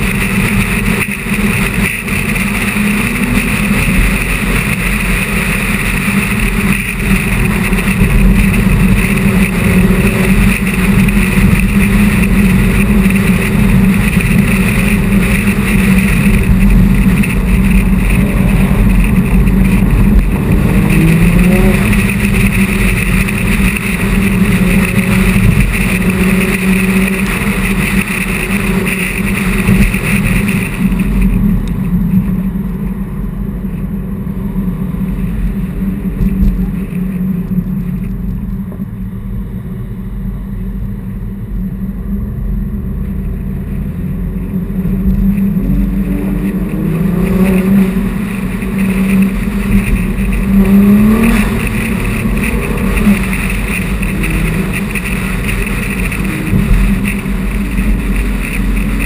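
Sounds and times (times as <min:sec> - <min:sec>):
car engine and road rumble: 0:00.0 - 0:59.0
wind and tyre hiss: 0:00.0 - 0:59.0.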